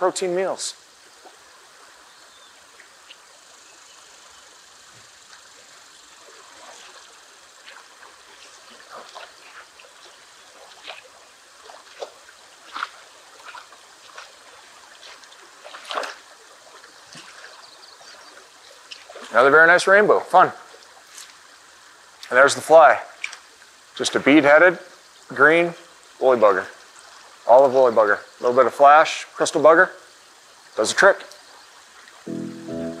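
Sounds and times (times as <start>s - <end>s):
fast river current: 0.0s - 33.0s.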